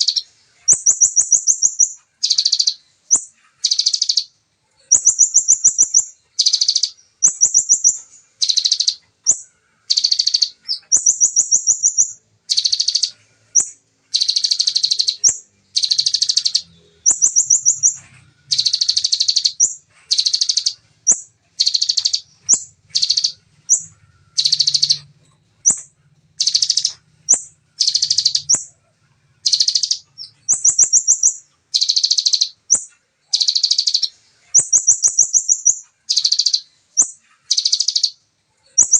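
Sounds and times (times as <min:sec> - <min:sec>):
bird singing high-pitched trills: 0:00.0 - 0:38.9.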